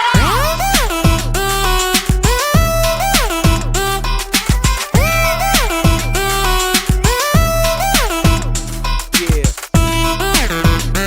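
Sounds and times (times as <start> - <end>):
steady bass beat: 0.0 - 11.0
gliding synth notes: 0.2 - 9.2.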